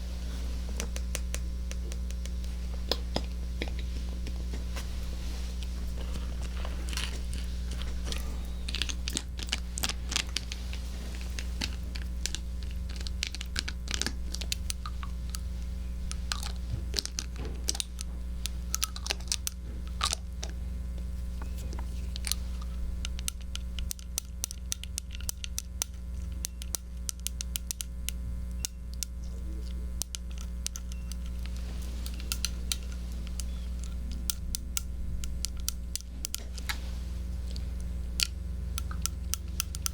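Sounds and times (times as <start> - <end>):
low hum: 0.0 - 39.9
crackles clicks and scratches: 0.5 - 39.9.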